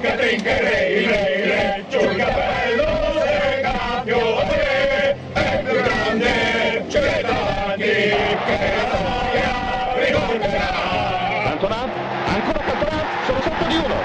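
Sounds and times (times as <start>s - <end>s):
stadium crowd chanting and singing: 0.0s - 14.0s.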